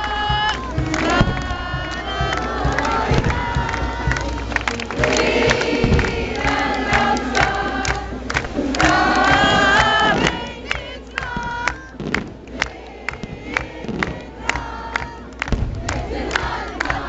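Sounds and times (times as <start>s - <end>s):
crowd singing and cheering: 0.0s - 17.0s
fireworks cracking and banging: 0.0s - 17.0s.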